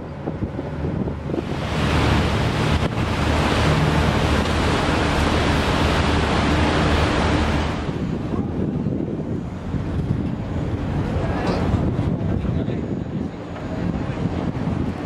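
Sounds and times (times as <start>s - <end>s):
boat engine droning: 0.0s - 15.0s
water rushing past boat: 0.0s - 15.0s
wind buffeting microphone: 0.0s - 15.0s.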